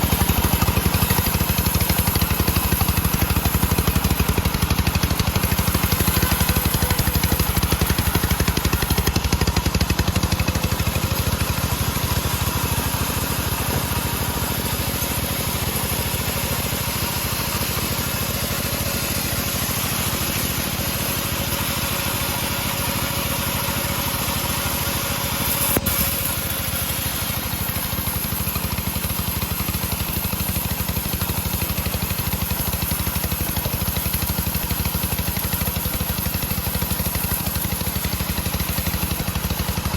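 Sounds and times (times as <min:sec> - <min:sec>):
engine-driven bandsaw mill running: 0:00.0 - 0:39.9.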